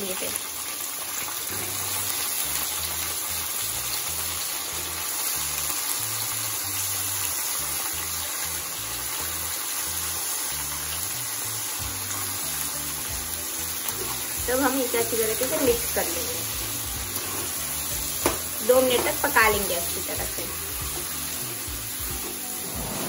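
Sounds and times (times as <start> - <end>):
food sizzling in hot oil: 0.0 - 23.0
background music with bass line: 1.5 - 14.8, 15.4 - 23.0.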